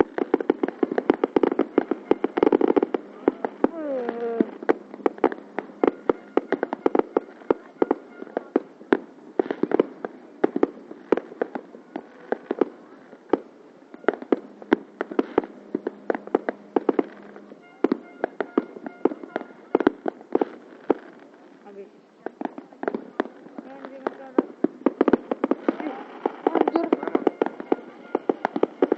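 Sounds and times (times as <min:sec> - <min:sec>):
distant crackling: 0:00.0 - 0:28.9
fireworks bangs and pops: 0:00.0 - 0:28.9.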